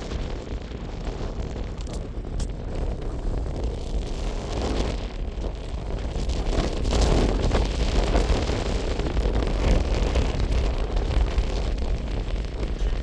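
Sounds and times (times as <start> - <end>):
strong wind gusting on microphone: 0.0 - 13.0.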